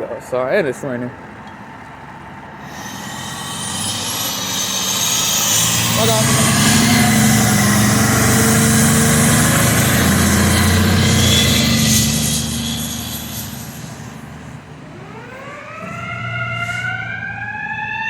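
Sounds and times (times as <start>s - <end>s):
emergency vehicle engine running: 2.2s - 18.0s
siren rising in pitch: 2.6s - 18.0s.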